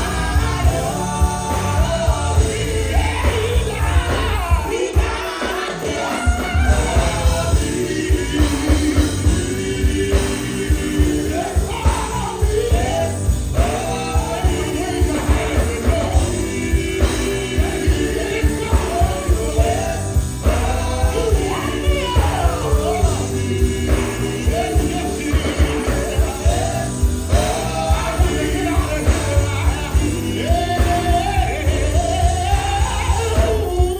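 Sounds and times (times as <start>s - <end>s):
gospel band playing: 0.0s - 33.9s.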